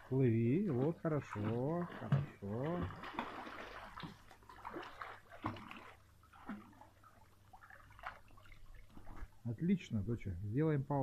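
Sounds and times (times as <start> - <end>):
pool water splashing from swimming: 0.0 - 10.0.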